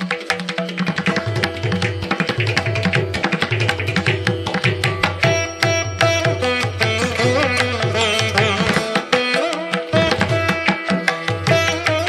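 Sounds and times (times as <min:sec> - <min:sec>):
instrumental music with drums: 0:00.0 - 0:12.0.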